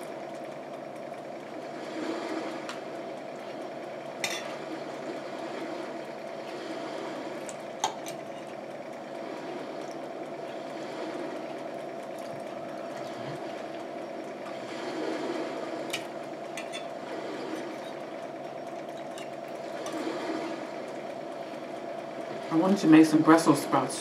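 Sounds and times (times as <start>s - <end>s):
background hum: 0.0s - 24.0s.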